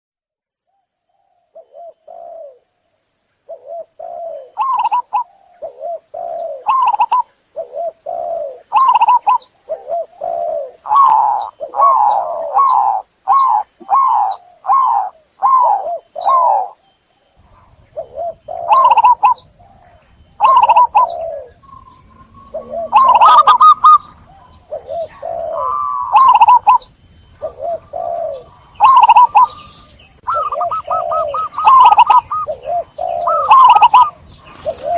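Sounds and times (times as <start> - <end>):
dove cooing: 1.2 - 2.7, 3.5 - 34.9.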